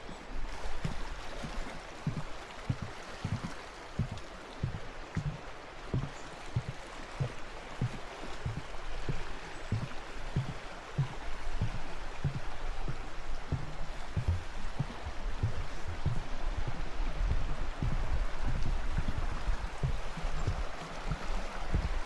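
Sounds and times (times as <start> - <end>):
flowing water rushing: 0.0 - 22.0
short low thuds: 2.1 - 22.0.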